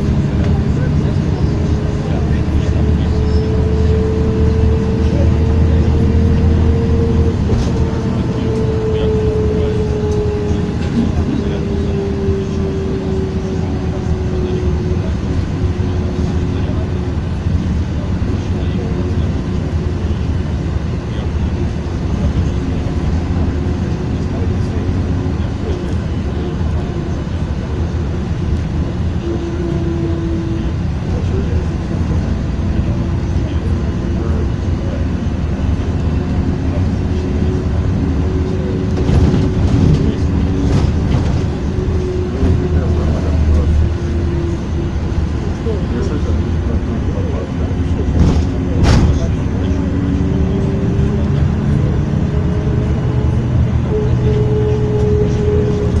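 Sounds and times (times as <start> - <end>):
higher engine tone: 0.0 - 56.0
road traffic rumble: 0.0 - 56.0.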